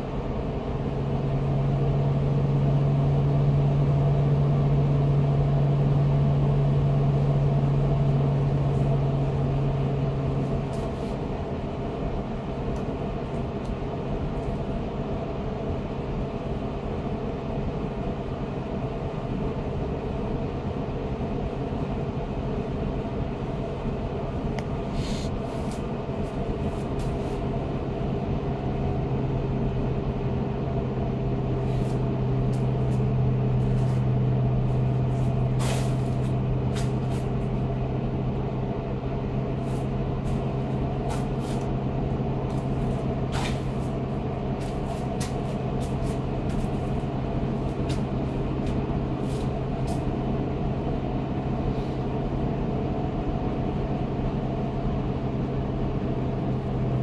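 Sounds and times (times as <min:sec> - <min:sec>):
fan humming: 0:00.0 - 0:57.0.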